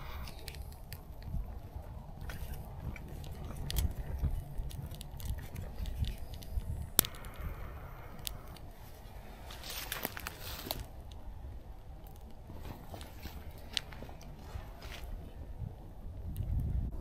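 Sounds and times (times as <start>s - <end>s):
low wind rumble on microphone: 0.0s - 17.0s
wood fire crackling and popping: 0.0s - 17.0s.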